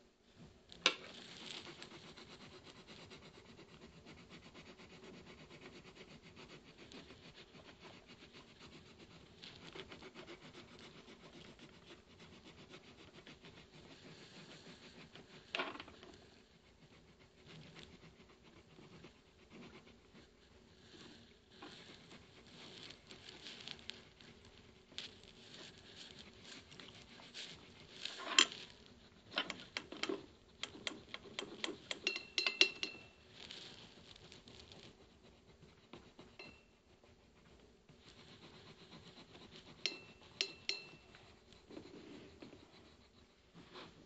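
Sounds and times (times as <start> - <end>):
pencil scratching on paper: 1.0 - 44.0.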